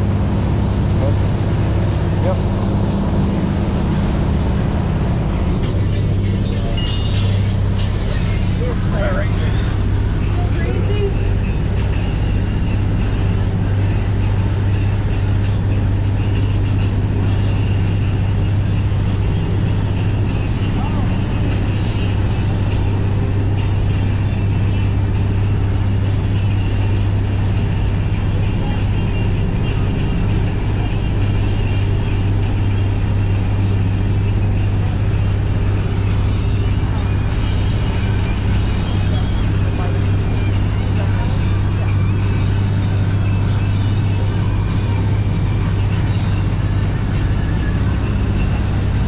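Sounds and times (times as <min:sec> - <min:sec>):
boat engine droning: 0:00.0 - 0:49.0
constant rushing noise: 0:00.0 - 0:49.0.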